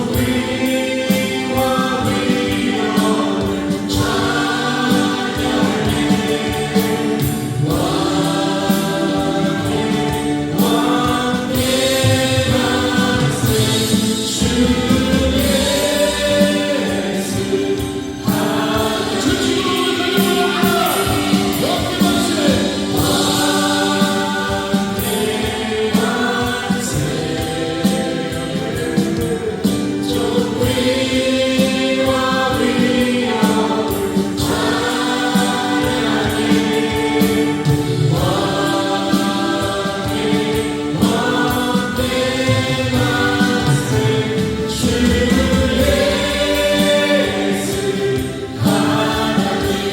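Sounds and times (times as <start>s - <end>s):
choir singing: 0.0s - 49.9s
instrumental accompaniment: 0.0s - 49.9s.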